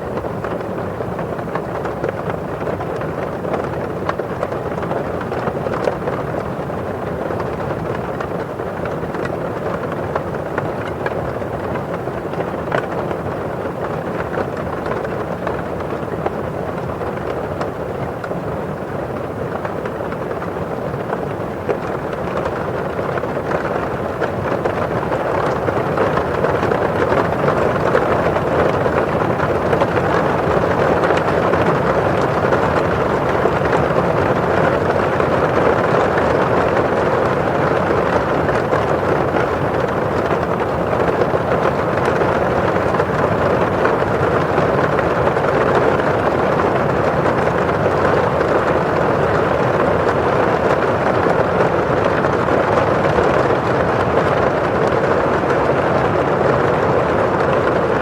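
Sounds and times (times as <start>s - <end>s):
rain drumming on window glass: 0.0s - 58.0s.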